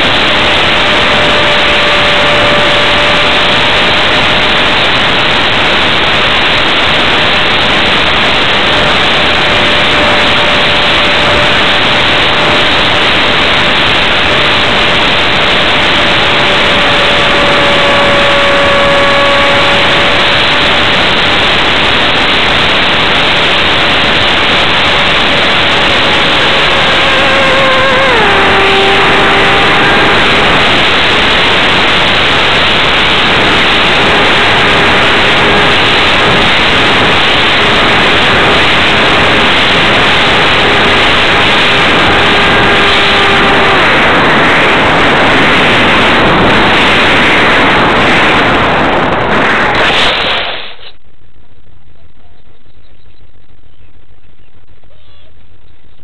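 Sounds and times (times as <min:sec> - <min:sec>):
electric motor whine: 0:00.0 - 0:49.7
wind rushing over microphone: 0:00.0 - 0:56.0.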